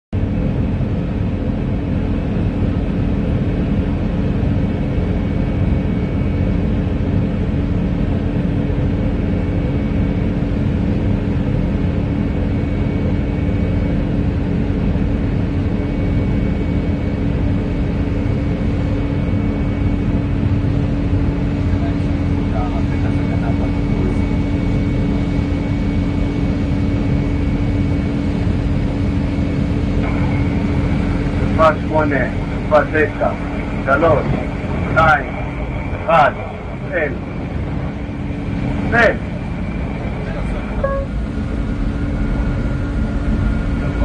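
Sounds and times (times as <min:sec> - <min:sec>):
airliner jet engines taxiing: 0:00.2 - 0:44.0.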